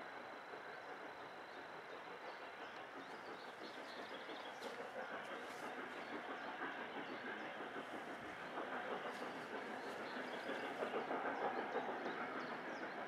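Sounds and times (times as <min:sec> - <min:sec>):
distant steam locomotive exhaust: 0:00.0 - 0:13.0.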